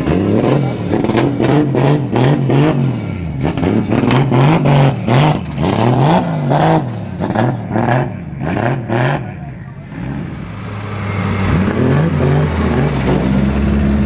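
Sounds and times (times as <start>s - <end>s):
car engine revving in blips: 0.0s - 14.0s.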